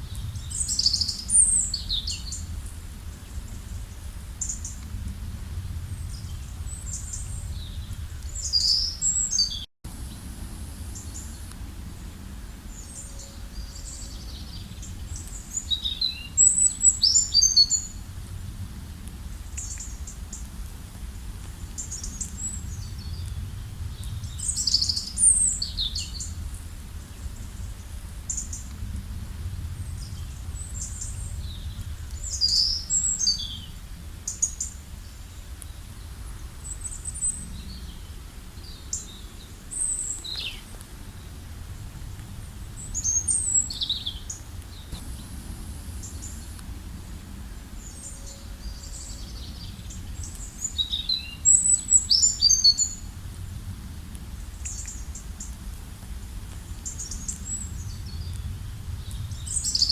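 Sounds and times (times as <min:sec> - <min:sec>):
steady low rumble: 0:00.0 - 0:09.3, 0:09.9 - 0:15.7, 0:17.7 - 0:35.2, 0:36.0 - 0:52.1, 0:52.9 - 0:59.8.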